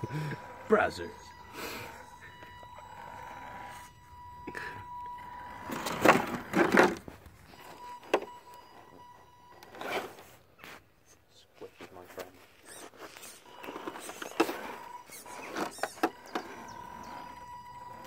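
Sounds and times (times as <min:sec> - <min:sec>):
rc car motor whine: 0:00.0 - 0:10.4, 0:12.6 - 0:18.0.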